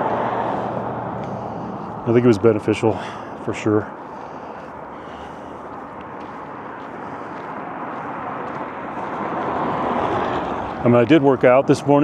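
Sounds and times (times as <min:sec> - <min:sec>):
passing vehicle rushing: 0:00.0 - 0:12.0.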